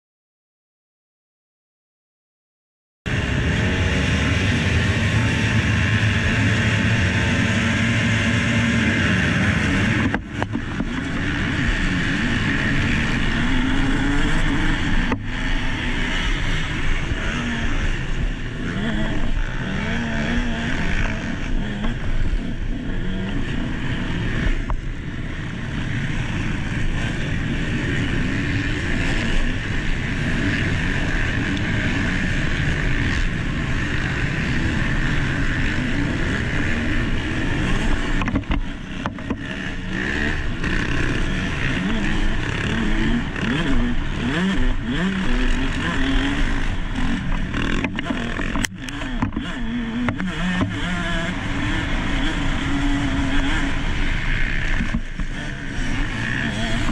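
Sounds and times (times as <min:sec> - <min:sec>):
motocross motorcycle engine revving: 0:03.1 - 0:56.9.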